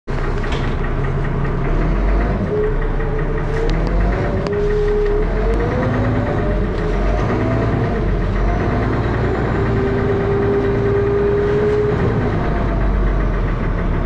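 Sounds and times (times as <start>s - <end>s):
diesel bus engine drone: 0.1s - 14.0s
engine knocking: 0.1s - 14.0s.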